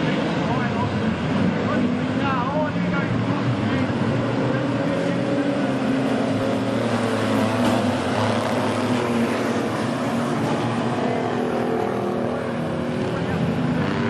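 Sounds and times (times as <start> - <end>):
stock car engines droning: 0.0 - 14.0.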